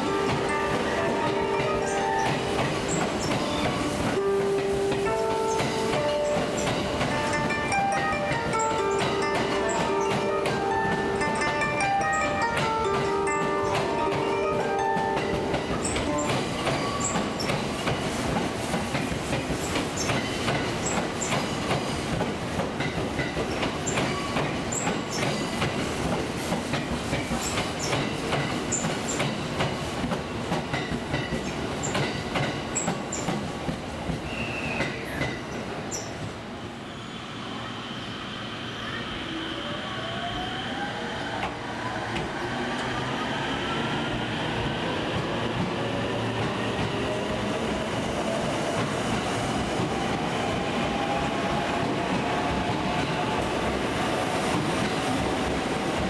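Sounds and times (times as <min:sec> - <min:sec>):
train wheels clicking on rails: 0:00.0 - 0:36.4, 0:41.4 - 0:56.0
rising train whine: 0:00.0 - 0:56.0.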